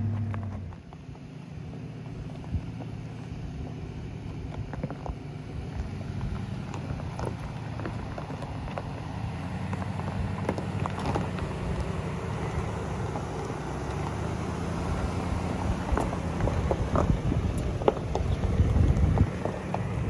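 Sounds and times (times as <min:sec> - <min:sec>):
low engine rumble: 0:00.0 - 0:20.0
stones crunching under tyres: 0:00.0 - 0:20.0.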